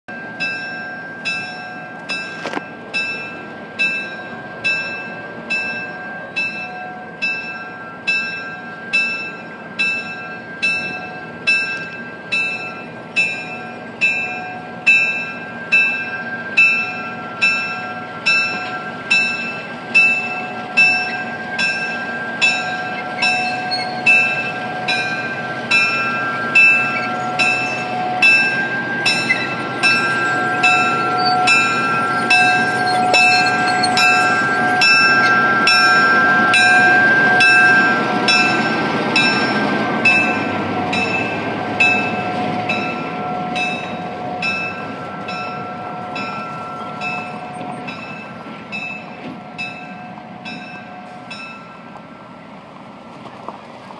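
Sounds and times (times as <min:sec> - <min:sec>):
locomotive bell ringing: 0:00.1 - 0:52.4
diesel locomotive running: 0:00.1 - 0:53.9.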